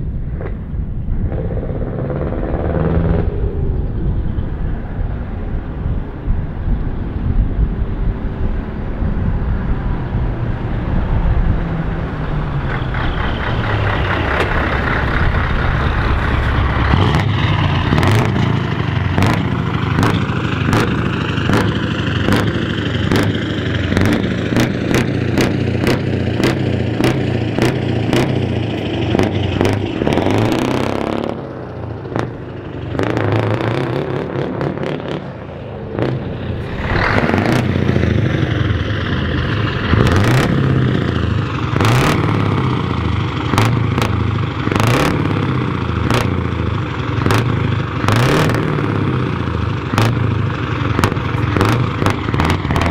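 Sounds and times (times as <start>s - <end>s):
truck diesel engine passing: 0.0s - 52.9s.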